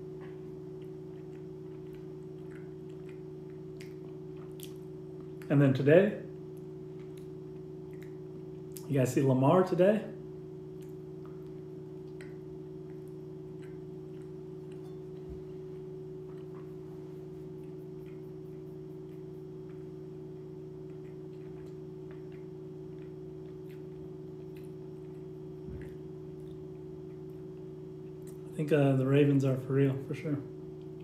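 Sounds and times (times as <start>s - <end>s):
man chewing: 0.0s - 5.5s, 6.3s - 8.9s, 10.4s - 28.5s
low hum: 0.0s - 31.0s.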